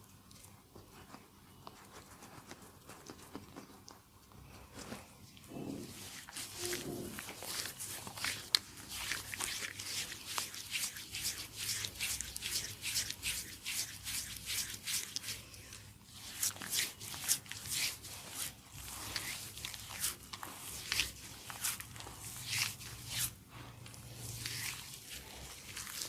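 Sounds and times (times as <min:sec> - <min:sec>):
hands rubbing on skin: 0:04.8 - 0:26.0.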